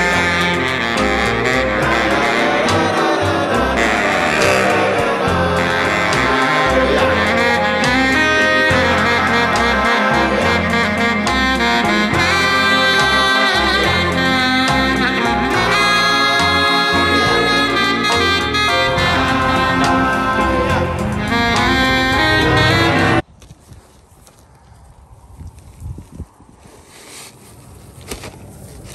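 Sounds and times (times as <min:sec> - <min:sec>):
bass line: 0:00.0 - 0:23.2
saxophone melody: 0:00.0 - 0:23.2.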